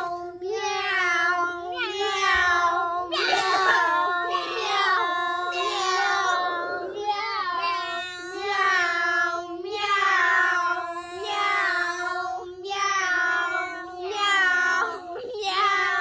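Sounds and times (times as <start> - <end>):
child making sung tones: 0.0 - 16.0.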